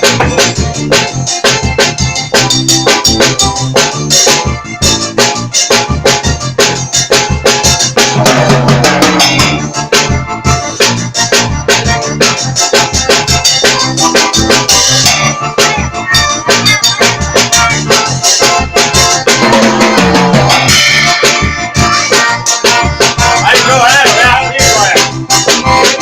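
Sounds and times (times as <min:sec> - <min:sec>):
drum kit playing a beat: 0:00.0 - 0:26.0.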